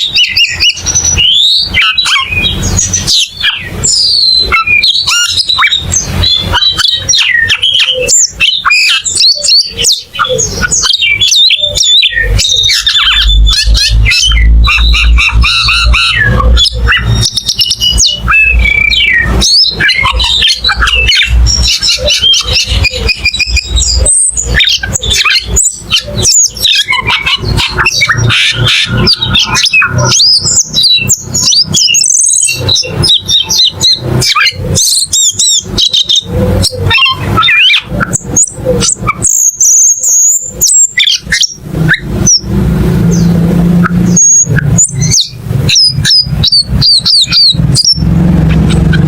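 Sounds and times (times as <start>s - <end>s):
bird singing: 0.0s - 49.0s.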